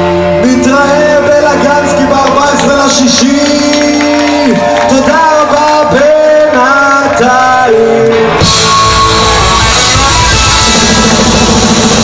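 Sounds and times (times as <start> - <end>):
live rock band: 0.0 - 12.0.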